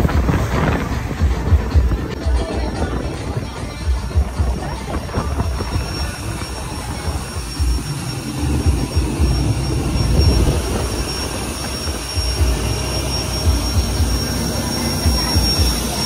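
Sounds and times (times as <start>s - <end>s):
boat engine rumble: 0.0s - 16.0s
wind on microphone: 0.0s - 16.0s.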